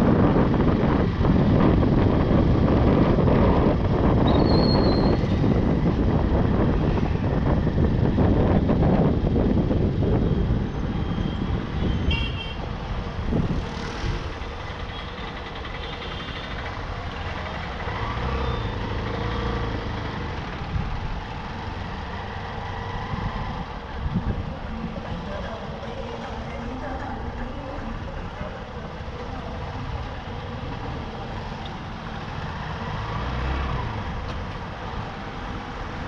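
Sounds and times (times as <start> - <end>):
street traffic: 0.0 - 36.0
wind and road rumble: 0.0 - 36.0.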